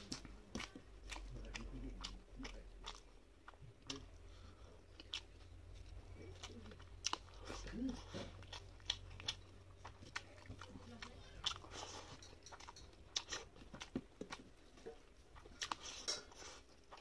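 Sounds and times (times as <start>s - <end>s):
chewing food: 0.0s - 17.0s
steady low hum: 0.0s - 17.0s.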